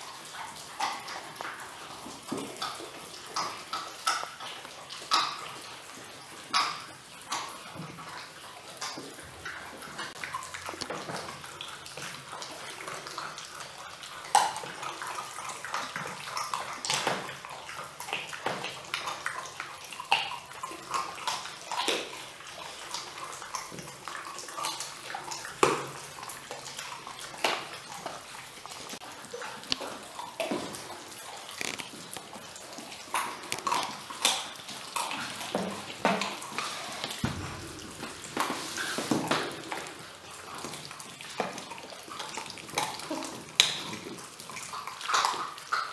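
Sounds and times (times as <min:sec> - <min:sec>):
puppies crunching bones: 0:00.0 - 0:45.9.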